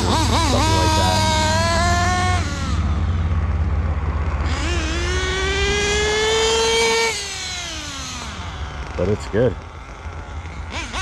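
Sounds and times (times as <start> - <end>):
model car engine revving: 0.0 - 11.0.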